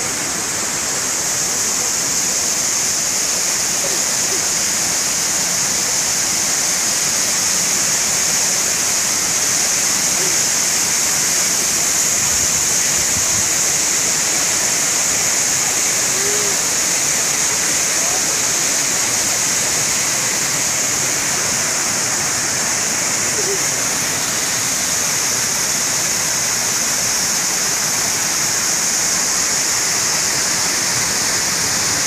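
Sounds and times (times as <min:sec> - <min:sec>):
mountain stream and waterfall rushing: 0:00.0 - 0:32.0.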